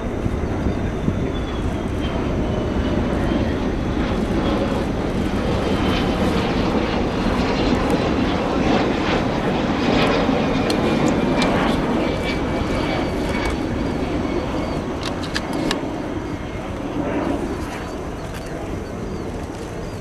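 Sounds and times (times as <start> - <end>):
faint high whine: 0.0 - 20.0
jet engines rumbling: 0.0 - 20.0.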